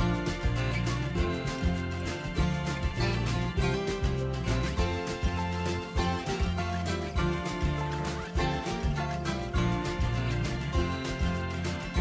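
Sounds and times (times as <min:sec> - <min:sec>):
music with beat bass and guitar: 0:00.0 - 0:12.0.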